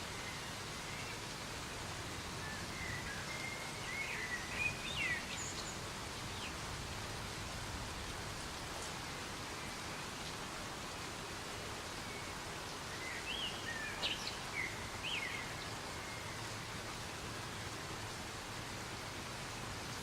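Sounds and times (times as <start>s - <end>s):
soft rain in a forest: 0.0s - 20.0s.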